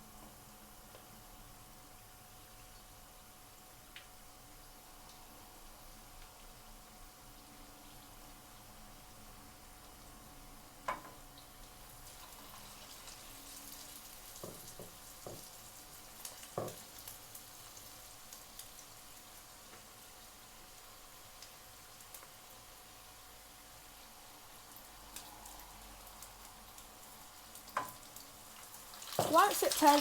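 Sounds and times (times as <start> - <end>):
prawns sizzling in hot oil: 0.0 - 30.0.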